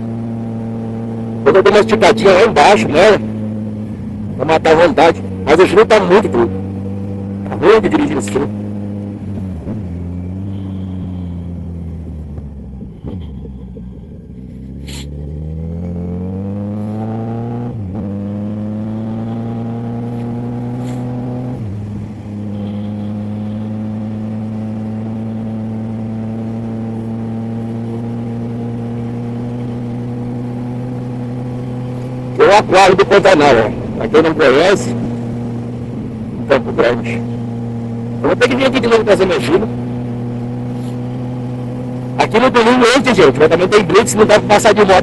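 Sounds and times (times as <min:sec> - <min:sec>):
motorcycle engine while riding: 0:00.0 - 0:45.0.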